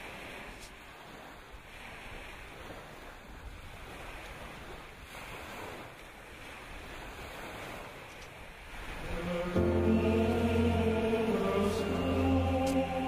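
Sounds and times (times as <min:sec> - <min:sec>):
water washing onto shore: 0:00.0 - 0:13.0.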